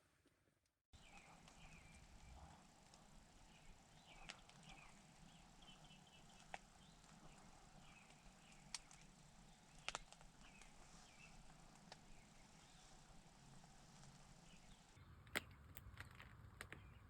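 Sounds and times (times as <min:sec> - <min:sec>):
songbird chirping: 0:01.0 - 0:17.0.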